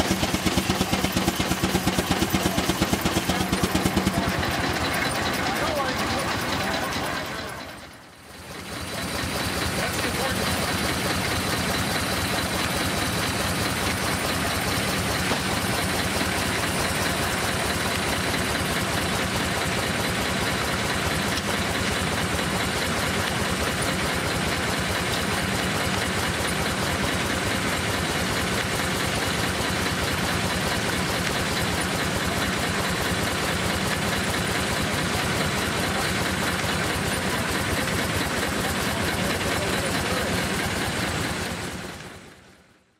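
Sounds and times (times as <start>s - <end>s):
steam engine driving a sawmill: 0.0s - 42.9s.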